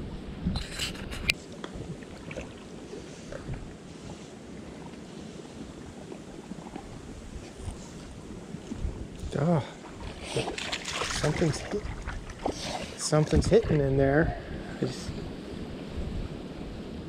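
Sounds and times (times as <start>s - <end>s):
wind rumbling on microphone: 0.0s - 17.0s
creek water running: 0.6s - 15.3s.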